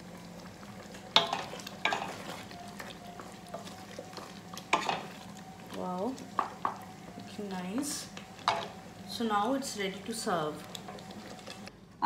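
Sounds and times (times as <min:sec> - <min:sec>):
spoon stirring thick gravy: 0:00.3 - 0:11.7.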